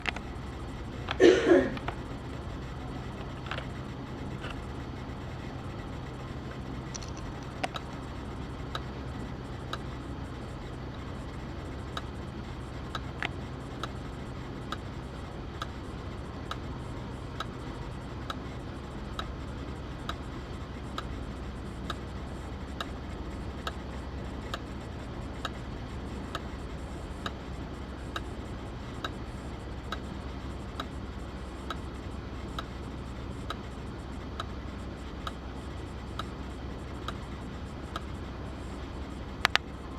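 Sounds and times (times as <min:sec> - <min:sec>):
hard drive clicking: 0:00.0 - 0:39.9.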